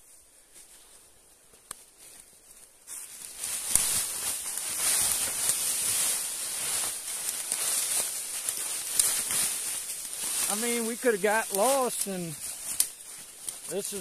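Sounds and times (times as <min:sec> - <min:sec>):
dry leaves crunching underfoot: 0:01.7 - 0:14.0.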